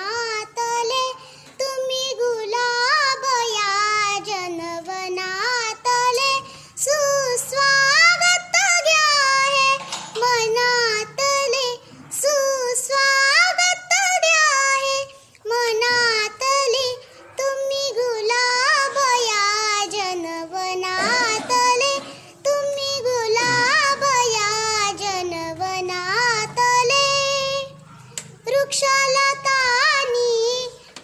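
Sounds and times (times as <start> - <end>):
girl singing: 0.0 - 31.0.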